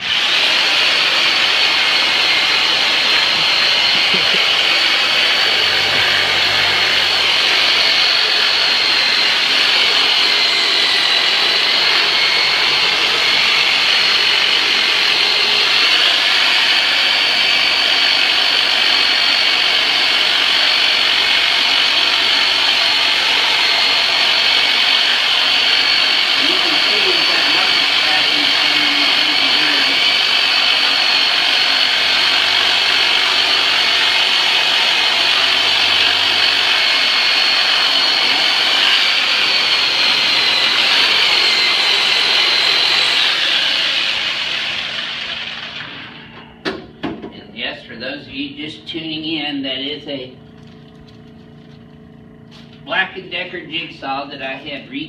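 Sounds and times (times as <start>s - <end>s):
jigsaw buzzing: 0.0s - 46.2s.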